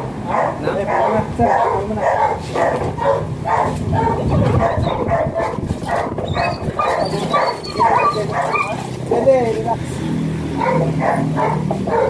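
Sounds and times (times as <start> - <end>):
dog barking: 0.2 - 9.3, 10.5 - 12.0.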